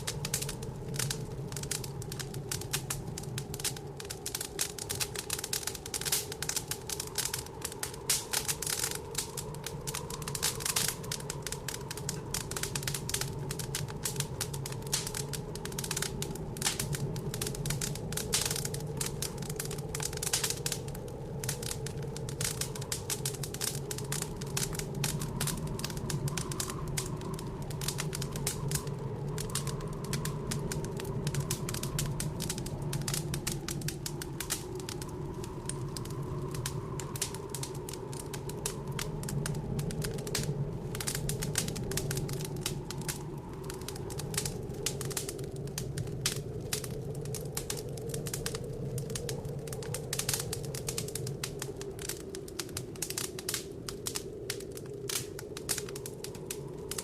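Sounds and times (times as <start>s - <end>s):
low wind drone: 0.0s - 57.0s
wood fire crackling and popping: 0.0s - 57.0s.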